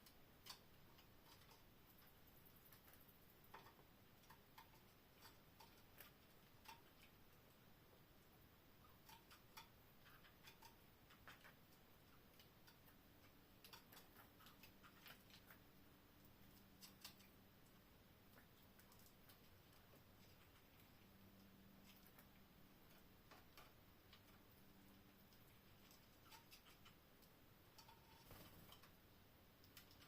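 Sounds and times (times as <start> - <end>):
faint small clicks: 0.0 - 7.5, 8.8 - 29.0, 29.6 - 30.0.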